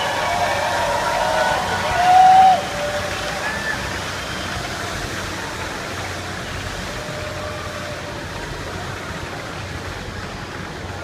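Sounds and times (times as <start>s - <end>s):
water jetting from hydrant: 0.0s - 11.0s.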